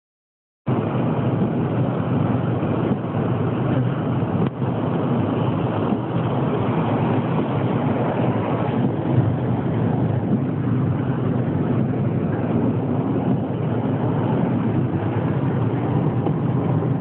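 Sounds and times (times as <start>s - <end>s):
car cabin road and engine rumble: 0.7s - 17.0s.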